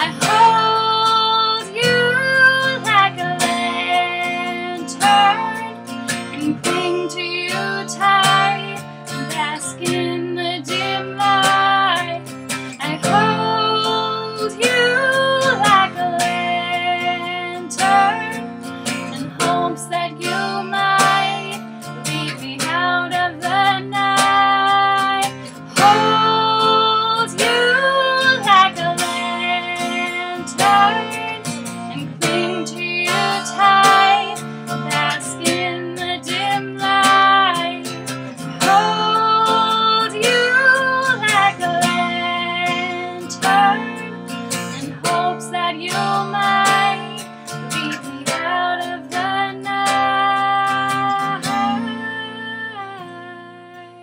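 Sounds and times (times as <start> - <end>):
strummed acoustic guitar: 0.0 - 54.0
woman singing: 0.0 - 54.0.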